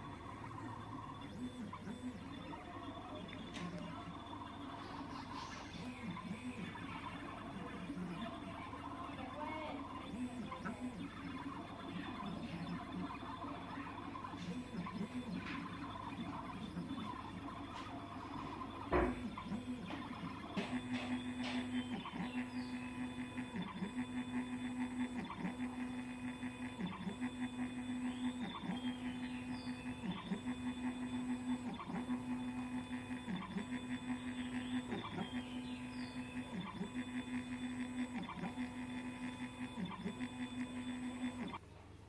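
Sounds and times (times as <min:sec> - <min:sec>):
stepper motors whining: 0:00.0 - 0:41.6.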